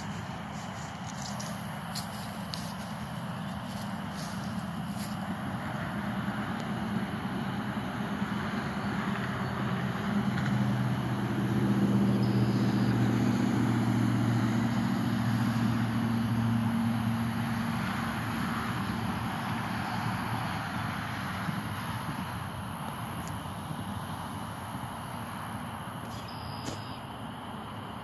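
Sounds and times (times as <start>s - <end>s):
distant motor engine humming: 0.0s - 28.0s
outdoor background noise: 0.0s - 28.0s.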